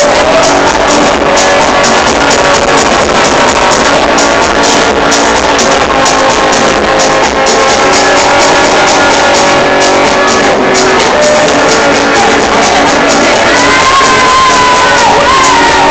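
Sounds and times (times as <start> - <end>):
band playing loud rock music: 0.0 - 15.9.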